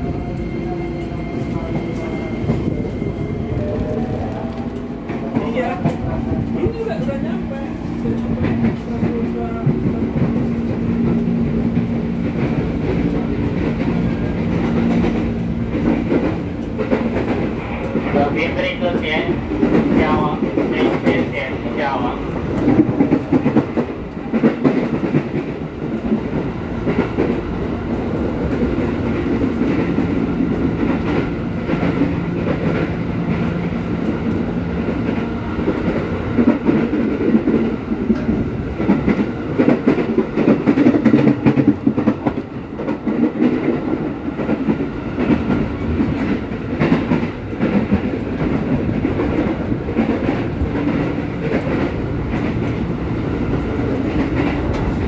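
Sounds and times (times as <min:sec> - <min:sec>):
train wheels rumbling on rails: 0:00.0 - 0:55.0
clickety-clack track clatter: 0:03.6 - 0:55.0.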